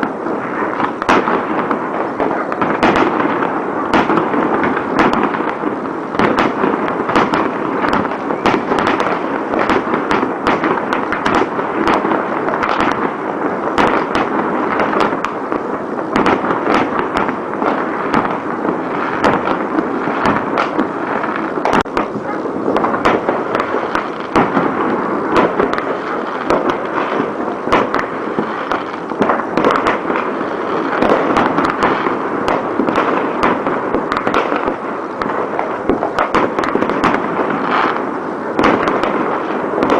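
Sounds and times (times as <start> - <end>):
fireworks crackling and banging: 0.0 - 39.9.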